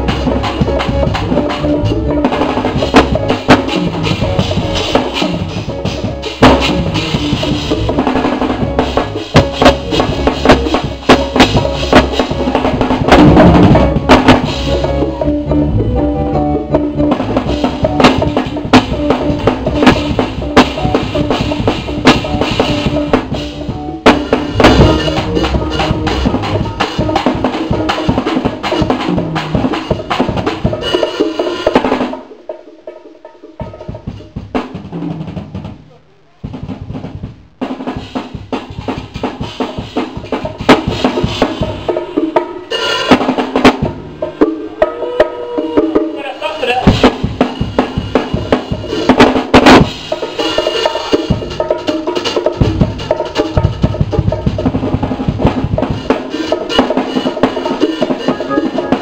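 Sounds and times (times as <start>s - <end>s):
band playing: 0.0s - 59.0s
drum kit hits: 0.0s - 59.0s.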